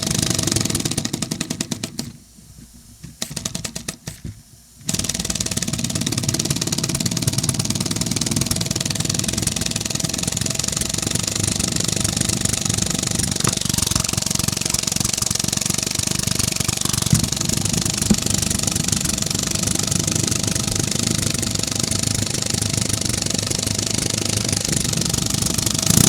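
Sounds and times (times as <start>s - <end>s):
piston engine clattering: 4.9s - 26.0s.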